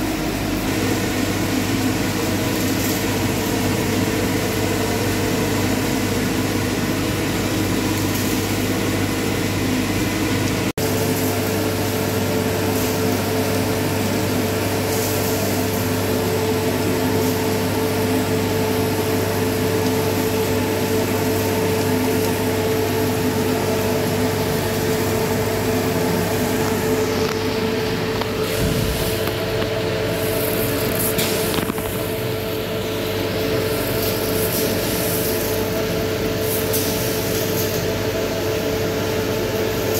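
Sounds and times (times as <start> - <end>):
fan and motor hum: 0.0 - 39.9
roasted beans rushing hiss: 0.0 - 39.9.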